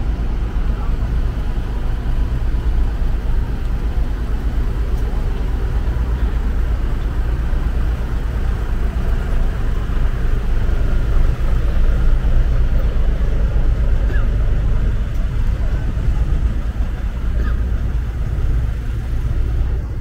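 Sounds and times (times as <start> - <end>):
deep engine rumble: 0.0 - 20.0.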